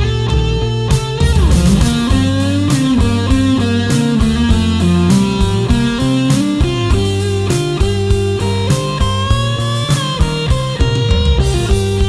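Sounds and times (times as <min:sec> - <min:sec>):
electric guitar lead notes: 0:00.0 - 0:12.0
rock backing track: 0:00.0 - 0:12.0.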